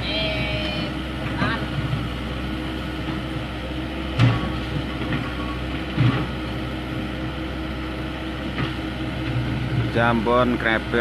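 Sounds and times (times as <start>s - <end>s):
excavator diesel engine: 0.0s - 11.0s.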